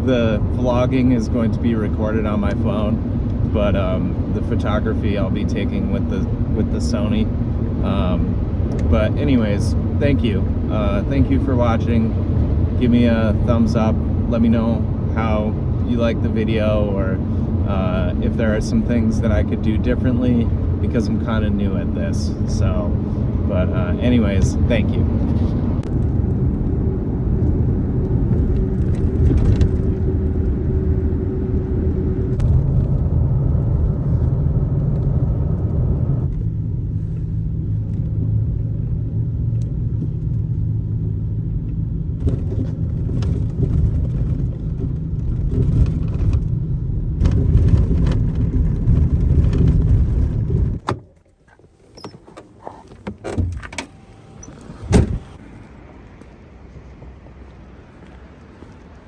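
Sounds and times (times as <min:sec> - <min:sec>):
engine and road drone: 0:00.0 - 0:59.0.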